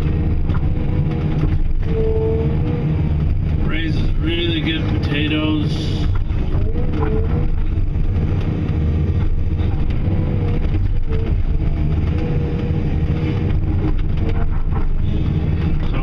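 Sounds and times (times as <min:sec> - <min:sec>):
diesel engine running under load: 0:00.0 - 0:16.0
hydraulic whine: 0:00.0 - 0:16.0.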